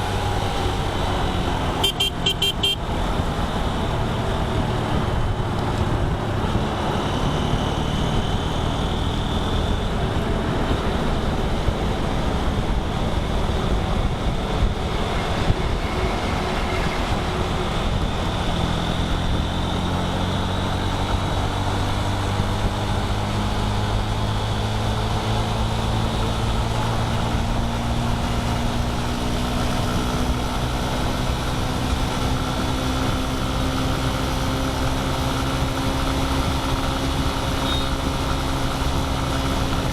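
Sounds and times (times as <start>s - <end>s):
road and wind noise: 0.0s - 39.9s
vehicle engine at highway speed: 0.0s - 39.9s.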